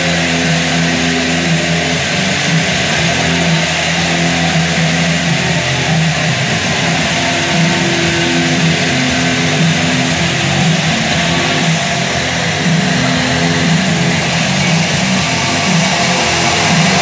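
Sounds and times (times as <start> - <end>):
stadium crowd noise: 0.0 - 17.0.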